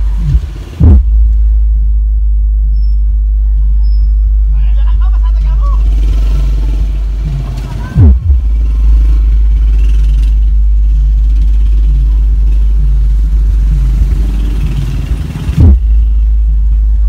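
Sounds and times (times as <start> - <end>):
deep bass with repeating pulse: 0.0 - 17.0
falling bass sweep: 0.0 - 17.0.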